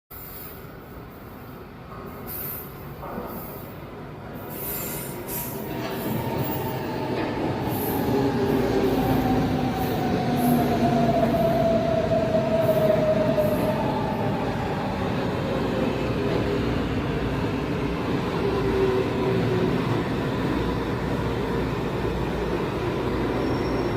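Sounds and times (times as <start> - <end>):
metro train running noise: 0.1 - 23.9
train whine sliding down: 4.4 - 23.9.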